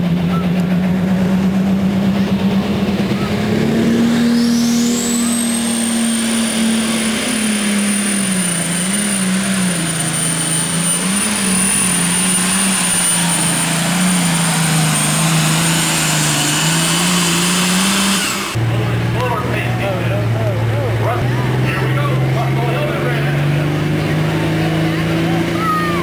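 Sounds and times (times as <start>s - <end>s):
diesel tractor engine at full throttle: 0.0s - 26.0s
high turbo whine: 0.0s - 26.0s.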